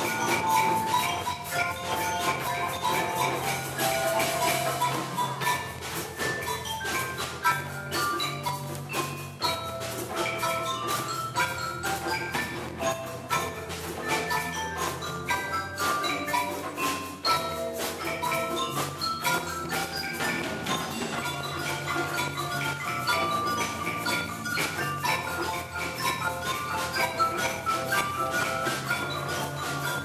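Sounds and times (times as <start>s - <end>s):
drums keeping a beat: 0.0s - 30.0s
marimba melody: 0.0s - 30.0s.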